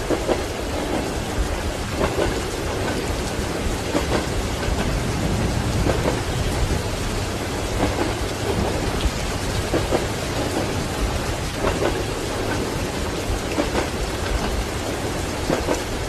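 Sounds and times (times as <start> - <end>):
steady rain: 0.0 - 16.0
thunder rumbling: 0.0 - 16.0
train wheels clacking over rails: 0.0 - 16.0.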